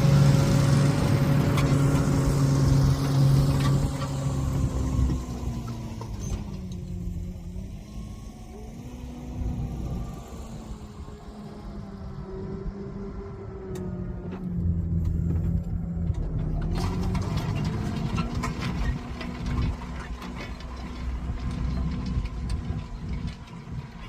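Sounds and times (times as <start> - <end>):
tractor engine humming: 0.0 - 24.0.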